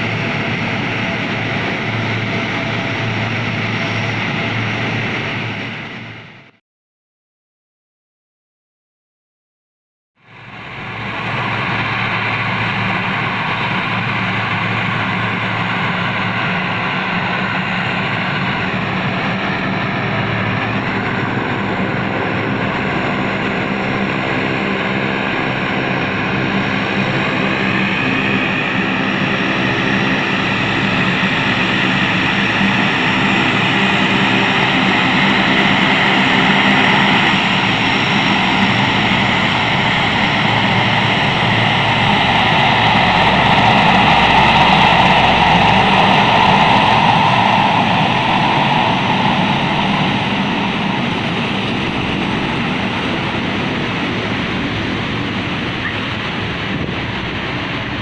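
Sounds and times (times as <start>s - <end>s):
turboprop engines running: 0.0s - 6.5s, 10.3s - 58.0s.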